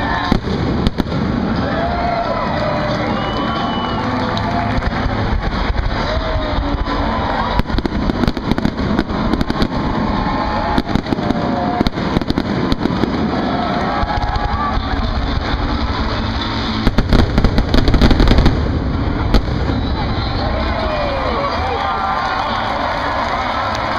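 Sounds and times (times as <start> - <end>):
low rumble: 0.0 - 23.3
fireworks bangs and crackles: 0.0 - 23.9.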